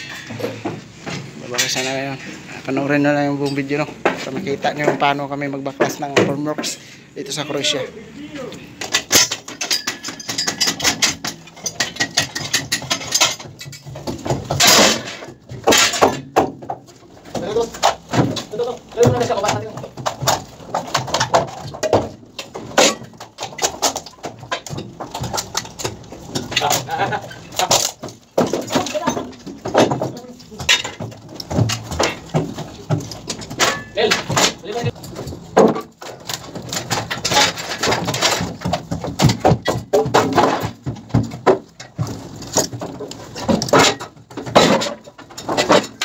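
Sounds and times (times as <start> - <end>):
metal clatter: 8.8 - 46.0.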